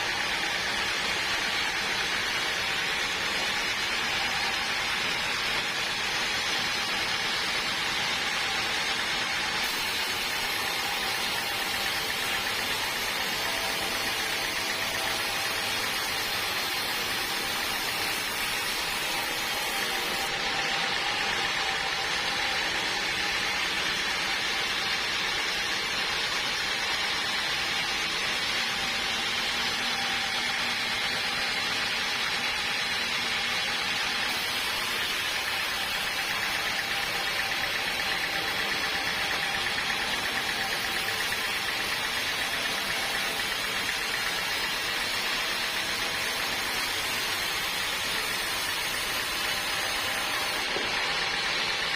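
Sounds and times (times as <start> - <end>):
sawmill machinery running: 0.0 - 51.9.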